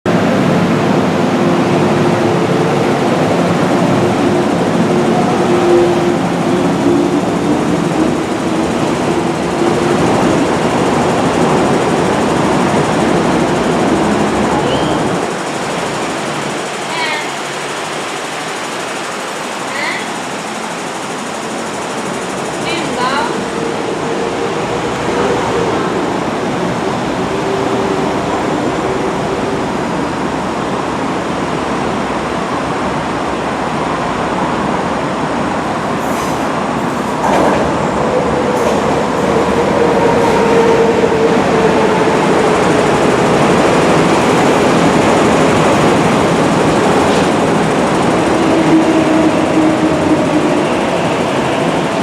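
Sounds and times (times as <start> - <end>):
train wheels rumbling on rail: 0.1 - 52.0.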